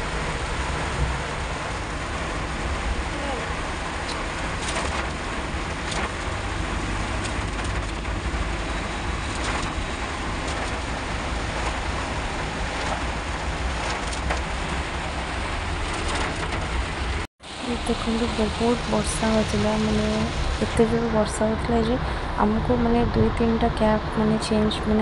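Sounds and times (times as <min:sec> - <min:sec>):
car driving on wet road: 0:00.0 - 0:24.9.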